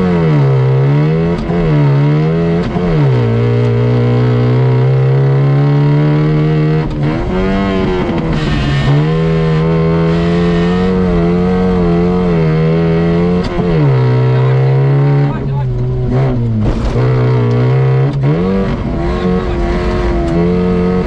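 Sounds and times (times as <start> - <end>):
car engine running hard: 0.0 - 21.0.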